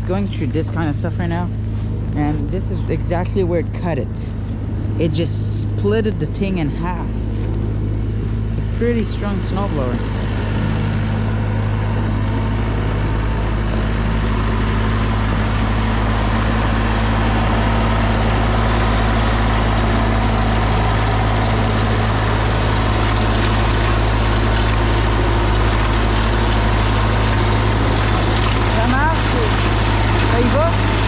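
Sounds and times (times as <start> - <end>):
snowblower engine humming: 0.0 - 31.0.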